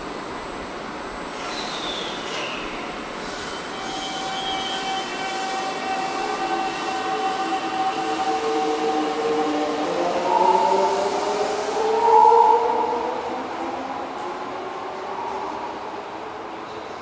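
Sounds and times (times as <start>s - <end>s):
subway train inverter whining: 0.0s - 17.0s.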